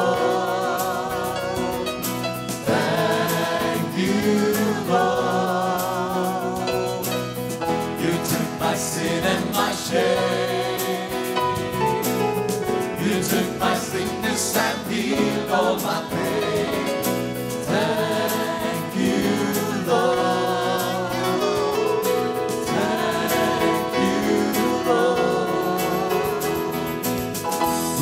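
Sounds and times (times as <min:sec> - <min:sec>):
group singing gospel song: 0:00.0 - 0:28.0.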